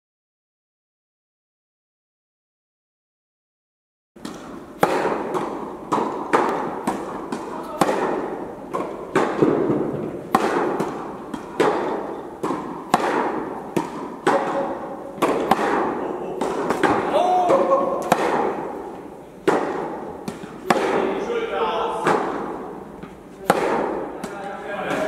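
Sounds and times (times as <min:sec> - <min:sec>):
tennis ball bouncing on court: 0:04.2 - 0:21.2, 0:21.9 - 0:25.0
racket strings striking ball: 0:04.2 - 0:25.0.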